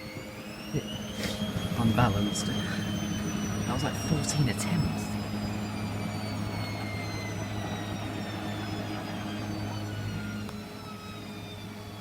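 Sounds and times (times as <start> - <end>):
steady low hum: 0.0 - 12.0
washing machine motor whining: 0.0 - 12.0.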